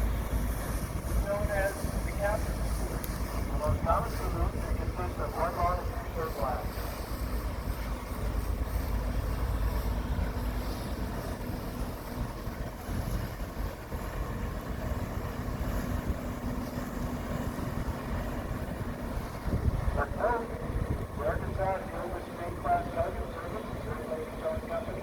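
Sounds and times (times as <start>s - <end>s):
wind rumble on microphone: 0.0s - 6.8s, 7.4s - 22.0s
tugboat engine hum: 0.0s - 25.0s.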